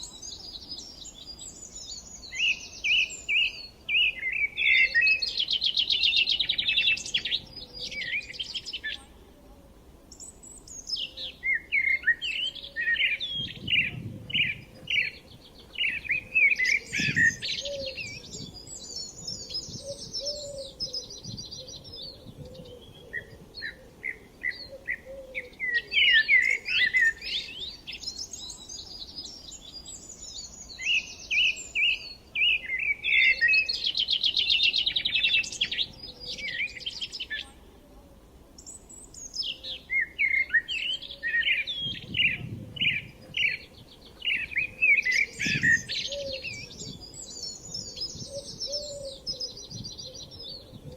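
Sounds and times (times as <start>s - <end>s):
songbirds chirping and warbling: 0.0s - 50.9s.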